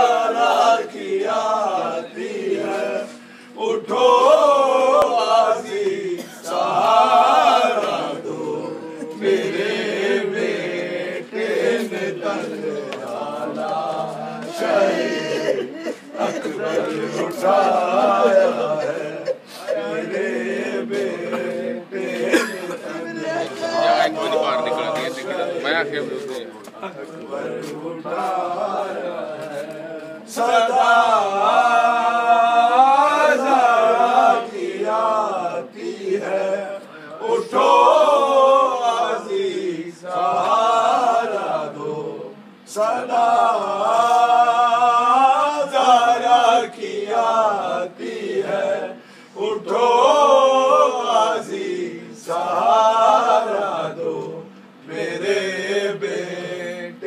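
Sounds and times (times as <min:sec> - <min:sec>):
man chanting unaccompanied: 0:00.0 - 0:48.6.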